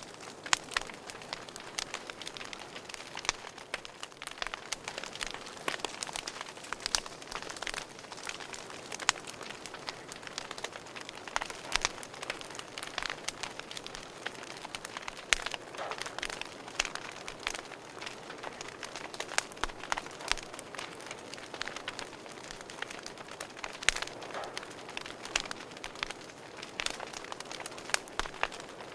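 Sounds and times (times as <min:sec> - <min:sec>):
fire hissing softly: 0:00.0 - 0:28.9
logs crackling and popping: 0:00.0 - 0:28.9.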